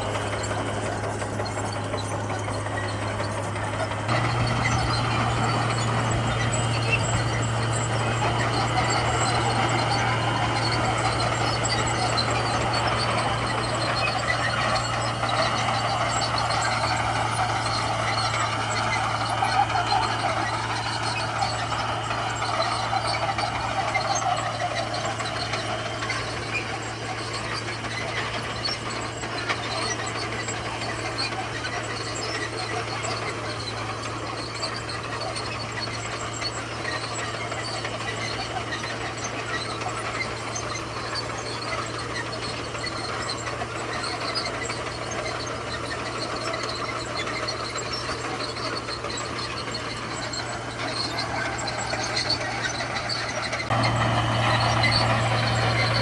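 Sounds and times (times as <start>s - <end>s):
bulldozer diesel engine running: 0.0s - 56.0s
steel tracks squealing: 0.0s - 56.0s.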